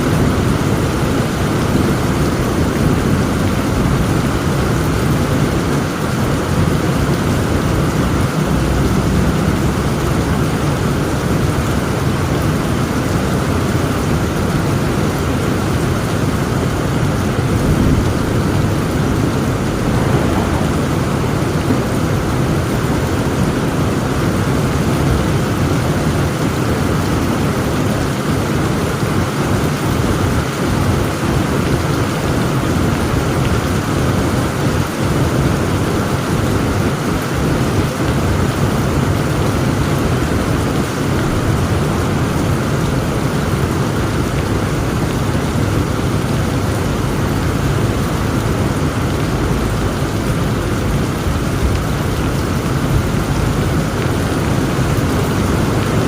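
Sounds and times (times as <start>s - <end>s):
thunder rumbling: 0.0s - 27.8s, 30.0s - 56.0s
heavy rain falling: 0.0s - 56.0s.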